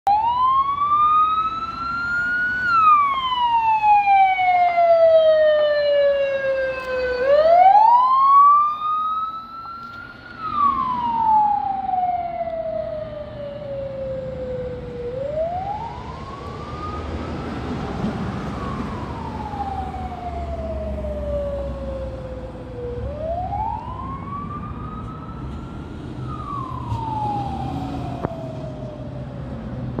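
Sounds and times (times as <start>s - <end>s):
siren wailing: 0.1s - 29.4s
car passing engine and road noise: 0.1s - 30.0s.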